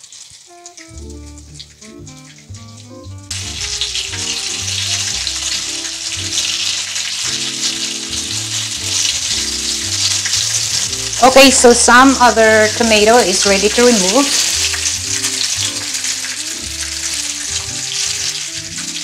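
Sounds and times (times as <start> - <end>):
tomato slices sizzling in oil: 0.0 - 19.0
background music: 0.4 - 19.0.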